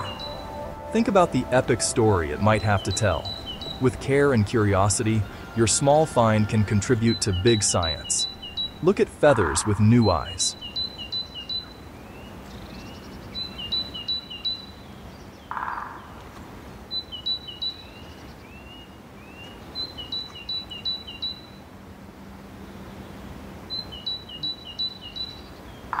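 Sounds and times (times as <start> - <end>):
songbird singing: 0.0 - 16.3, 16.9 - 21.6, 22.8 - 26.0
outdoor background noise: 0.0 - 26.0.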